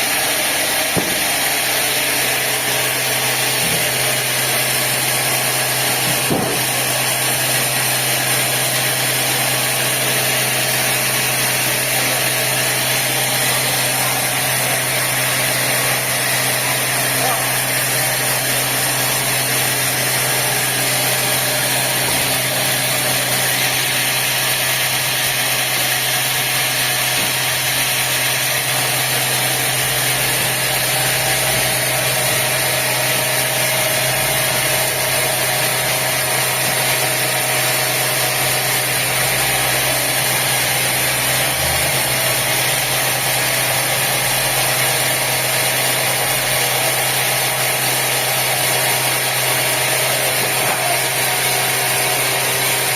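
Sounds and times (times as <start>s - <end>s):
sawmill machinery drone: 0.0s - 52.9s.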